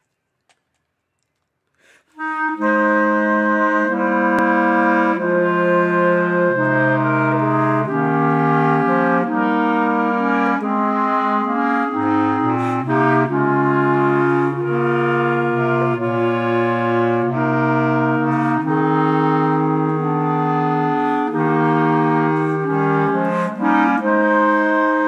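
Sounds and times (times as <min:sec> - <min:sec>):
low bass clarinet line: 0:02.1 - 0:25.0
clarinet quartet playing chords: 0:02.2 - 0:25.0.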